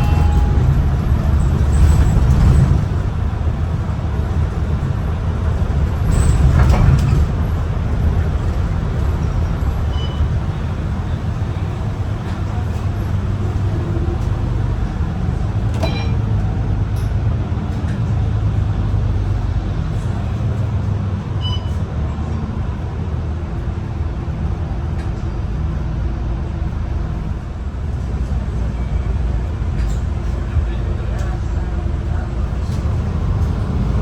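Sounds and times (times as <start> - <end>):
bus engine droning: 0.0 - 34.0
road noise: 0.0 - 34.0.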